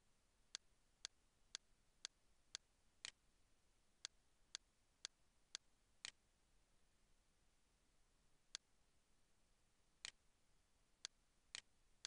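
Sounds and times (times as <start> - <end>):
faint evenly spaced ticks: 0.4 - 6.7, 8.0 - 12.0.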